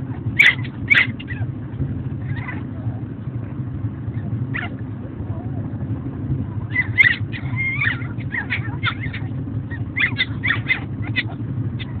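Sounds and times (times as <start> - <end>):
puppies whining and yelping: 0.0 - 3.2, 3.9 - 5.8, 6.5 - 12.0
steady low rumble: 0.0 - 12.0.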